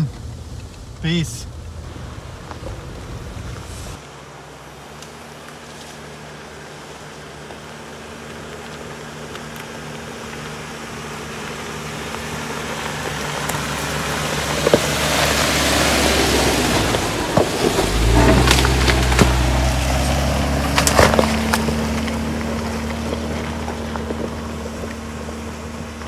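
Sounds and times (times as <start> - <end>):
car engine running steadily: 0.0 - 26.0
tyres rolling on dirt trail: 0.0 - 26.0.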